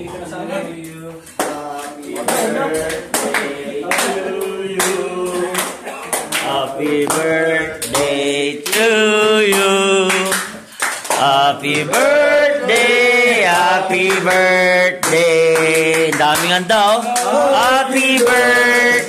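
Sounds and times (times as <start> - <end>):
men singing together: 0.0 - 19.0
hand clapping: 0.8 - 19.0.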